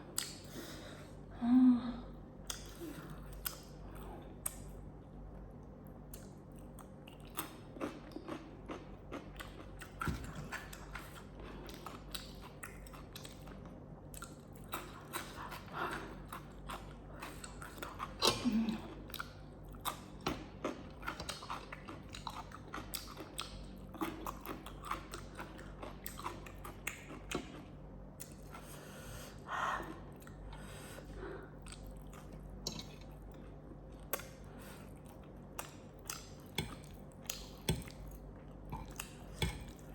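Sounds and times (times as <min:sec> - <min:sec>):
person chewing food: 0:02.5 - 0:39.9.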